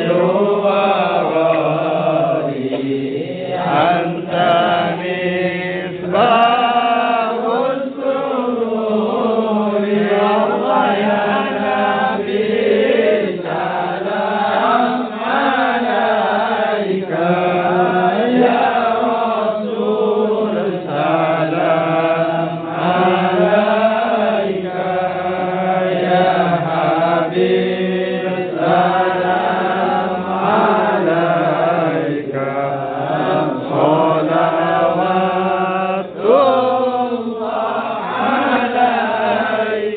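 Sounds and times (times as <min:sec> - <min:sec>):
men chanting in unison: 0:00.0 - 0:39.9.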